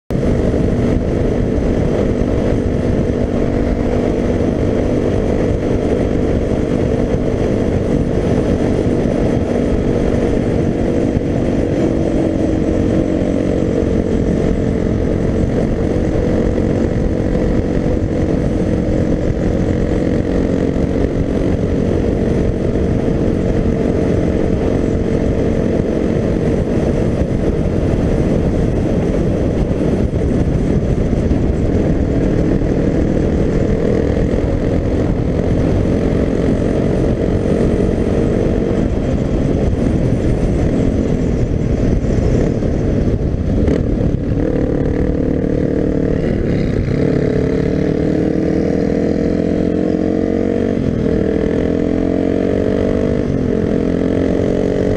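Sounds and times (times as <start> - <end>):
motorcycle engine cruising: 0.1 - 54.9
wind on microphone: 0.1 - 54.9.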